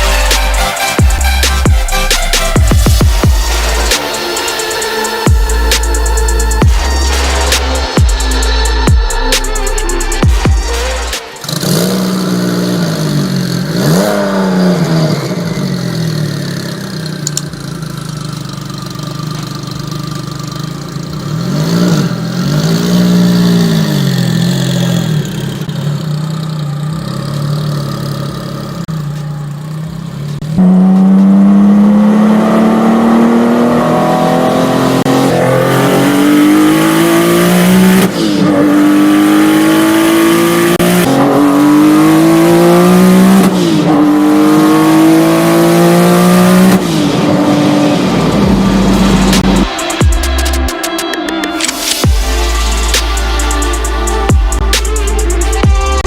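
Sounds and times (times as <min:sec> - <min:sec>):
sports car engine revving: 0:00.0 - 0:56.0.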